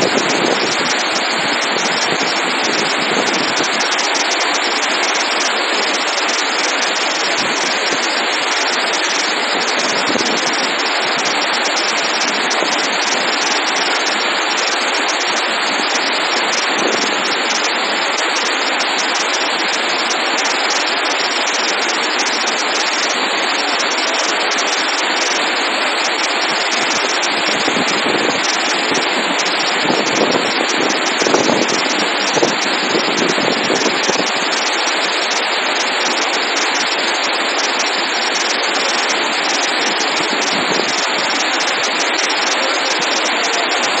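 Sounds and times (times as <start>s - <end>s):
water rushing through spillway: 0.0s - 44.0s.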